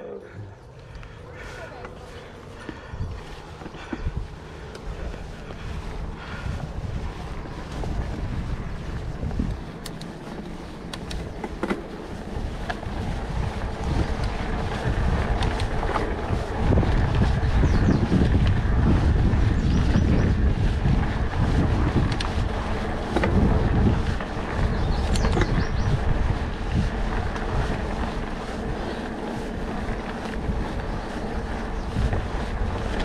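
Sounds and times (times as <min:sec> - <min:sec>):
bike tyres rolling on dirt: 0:00.0 - 0:33.0
wind buffeting microphone: 0:00.0 - 0:33.0
bike clicks and rattles: 0:00.4 - 0:33.0.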